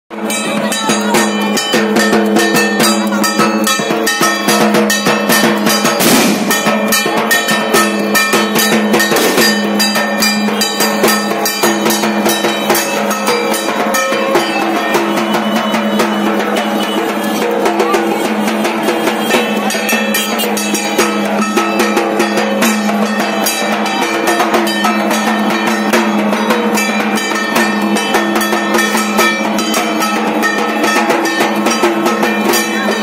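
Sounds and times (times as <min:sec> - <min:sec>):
loud drum music: 0:00.1 - 0:33.0.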